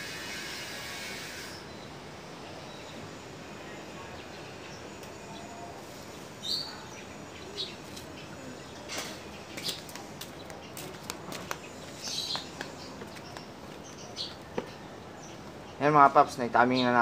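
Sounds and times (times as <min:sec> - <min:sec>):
steady background hiss: 0:00.0 - 0:17.0
small birds chirping: 0:01.6 - 0:17.0.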